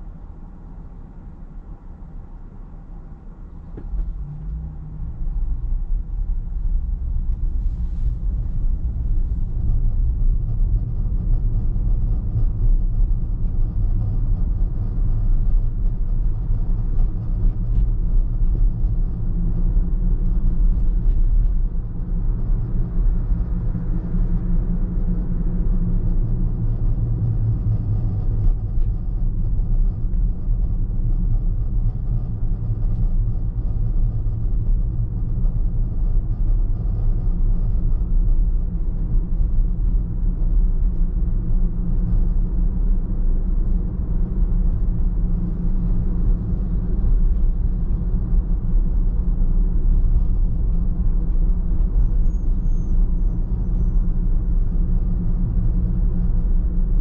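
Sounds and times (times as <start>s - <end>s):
car engine rumble: 0.0s - 57.0s
road noise: 0.0s - 57.0s.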